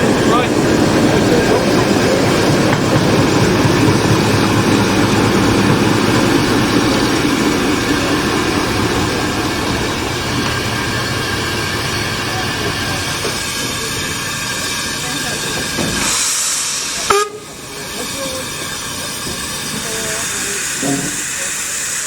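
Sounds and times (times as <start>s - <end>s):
steam train rumbling: 0.0s - 22.0s.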